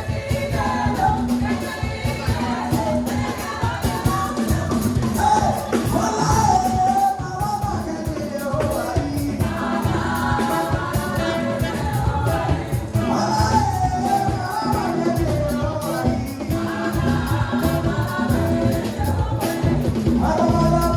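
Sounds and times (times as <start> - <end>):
band with steady drums: 0.0 - 20.9
choir singing gospel: 0.0 - 20.9.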